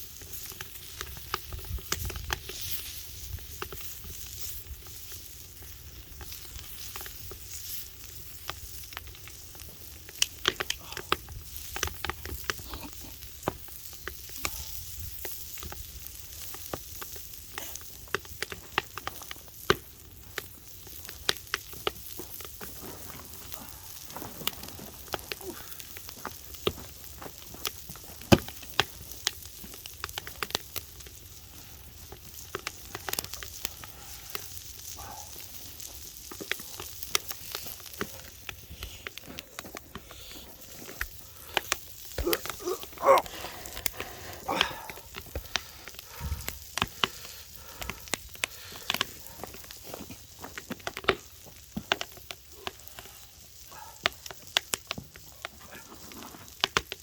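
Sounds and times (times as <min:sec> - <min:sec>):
food sizzling over fire: 0:00.0 - 0:57.0.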